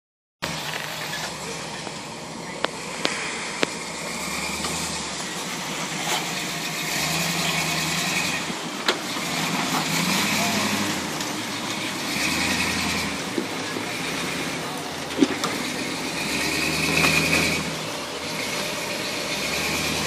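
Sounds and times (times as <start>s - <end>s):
truck engine running at low revs: 0.4s - 20.0s.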